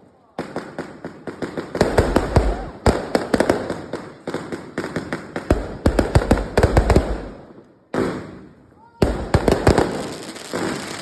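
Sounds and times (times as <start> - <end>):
fireworks cracking and popping: 0.0 - 11.0
low rumble of fireworks: 0.0 - 11.0.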